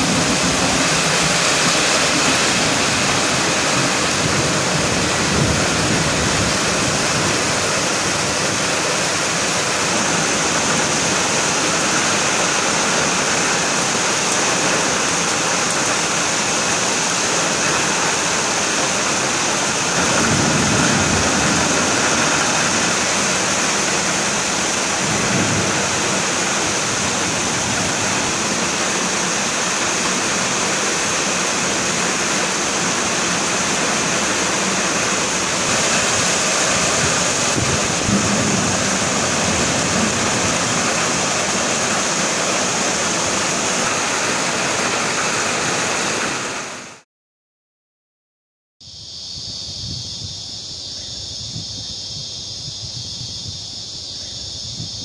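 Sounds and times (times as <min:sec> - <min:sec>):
thunder rumbling: 0:00.0 - 0:15.0, 0:16.7 - 0:46.6
heavy rain pouring: 0:00.0 - 0:47.0.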